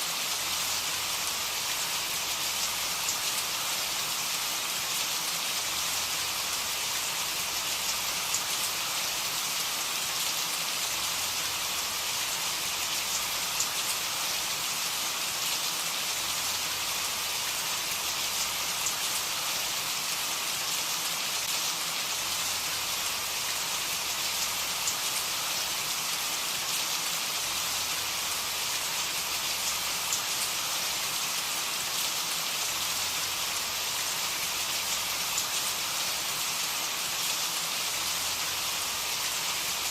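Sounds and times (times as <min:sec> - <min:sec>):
patter of raindrops: 0:00.0 - 0:39.9
rain falling: 0:00.0 - 0:39.9.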